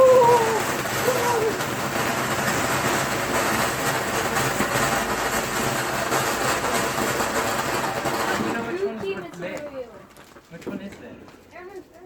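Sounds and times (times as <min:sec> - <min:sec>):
firework fountain hissing: 0:00.0 - 0:11.6.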